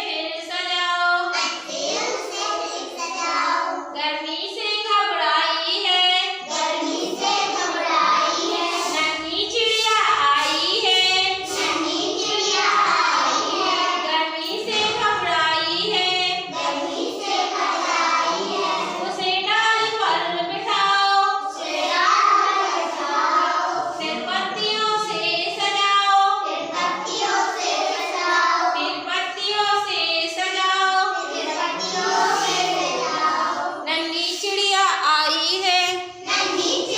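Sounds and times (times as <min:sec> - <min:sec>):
child singing: 0:01.2 - 0:33.9, 0:36.1 - 0:36.9.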